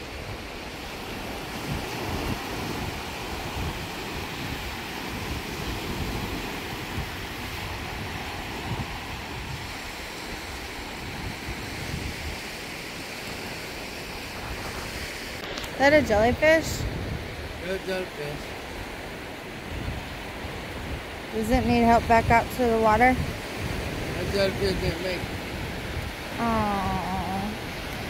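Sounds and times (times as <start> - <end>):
surf washing onto beach: 0.0 - 28.0
wind rumbling on microphone: 0.0 - 28.0.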